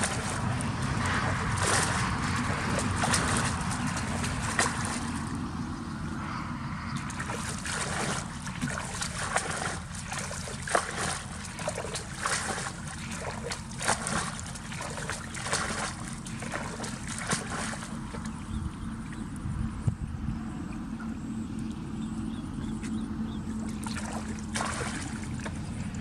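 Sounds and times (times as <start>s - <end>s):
water splashing and trickling: 0.0s - 19.6s, 20.7s - 26.0s.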